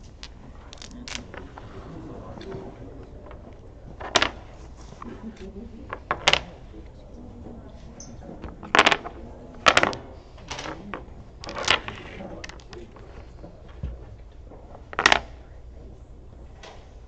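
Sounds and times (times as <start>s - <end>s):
domino tiles clacking on wood: 0.1s - 6.7s, 8.4s - 15.4s.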